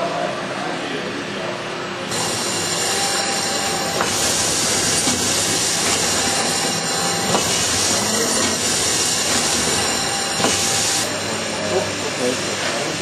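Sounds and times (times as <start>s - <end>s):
packaging machine running: 2.1s - 13.0s.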